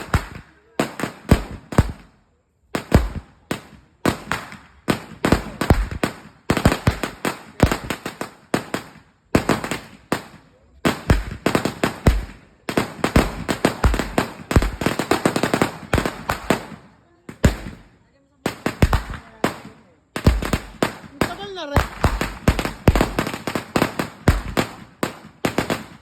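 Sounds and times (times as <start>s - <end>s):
firecracker belt cracking: 2.8s - 26.0s.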